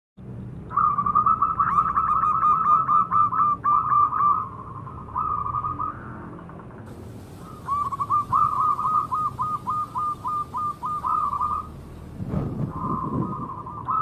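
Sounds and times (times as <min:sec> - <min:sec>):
dove cooing: 0:00.7 - 0:06.2, 0:06.9 - 0:14.0.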